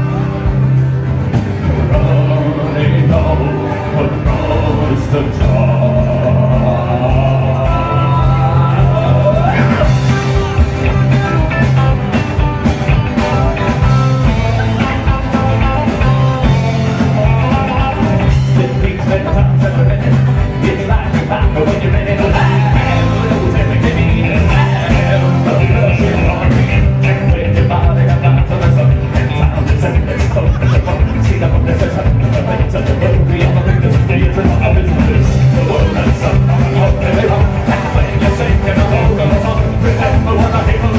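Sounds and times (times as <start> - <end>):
bass line: 0.0 - 40.9
drums: 0.0 - 40.9
electric guitar: 0.0 - 40.9.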